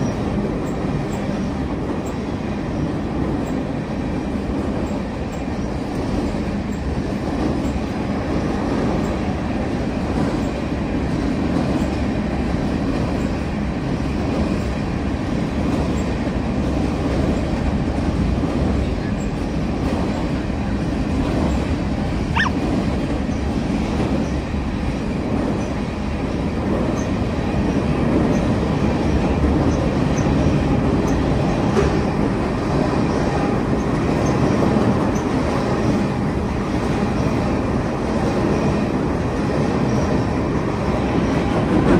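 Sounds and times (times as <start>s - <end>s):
freight train rumbling over bridge: 0.0s - 41.9s.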